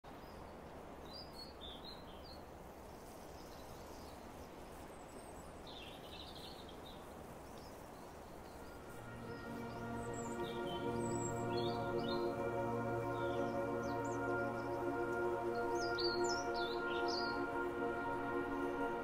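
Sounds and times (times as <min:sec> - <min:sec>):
background hiss: 0:00.1 - 0:19.0
small birds chirping: 0:01.1 - 0:19.0.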